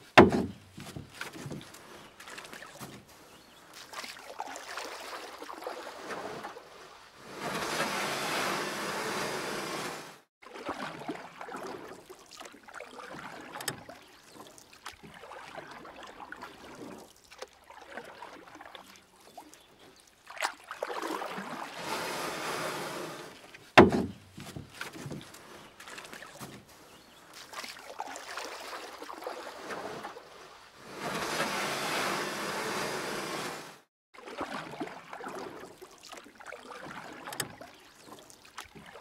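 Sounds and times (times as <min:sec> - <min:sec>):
water swishing and splashing: 0:00.0 - 0:39.0.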